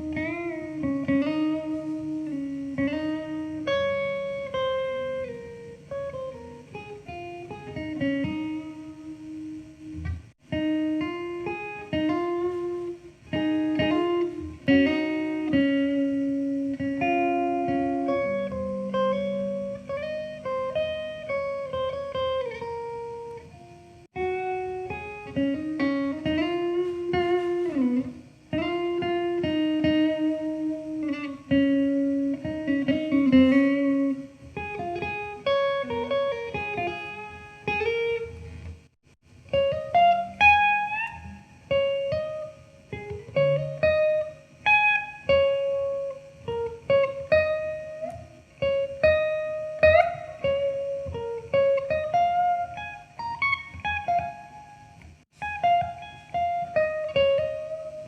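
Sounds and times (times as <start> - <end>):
guitar playing slow melody: 0.0 - 58.0.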